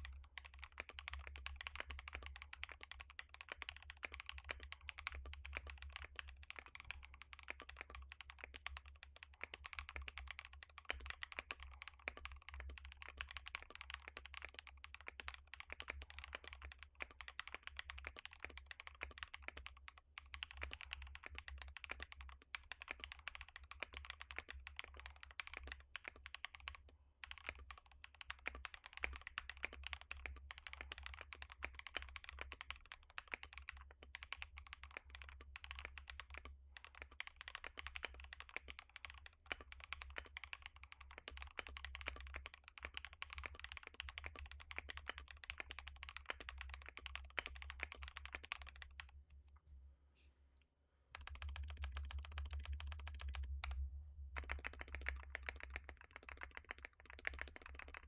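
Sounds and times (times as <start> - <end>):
fast mechanical keyboard typing: 0.0 - 49.1, 51.1 - 53.8, 54.4 - 58.0.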